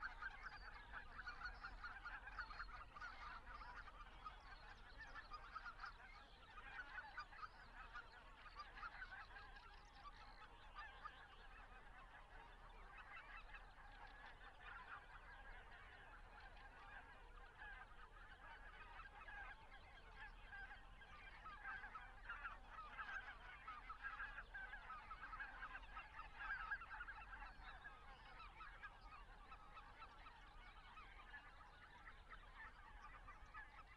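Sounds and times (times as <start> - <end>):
geese calling in flight: 0.0 - 33.9.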